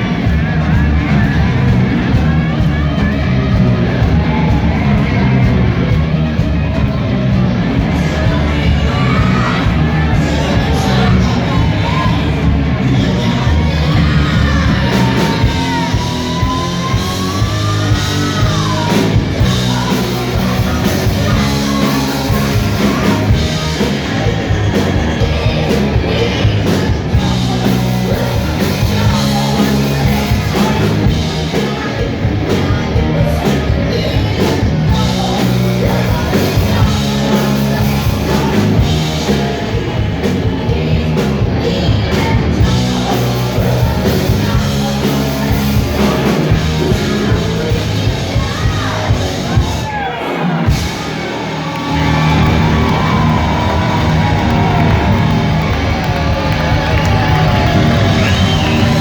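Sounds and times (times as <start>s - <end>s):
hard rock band playing: 0.0s - 59.0s
person singing: 6.8s - 59.0s.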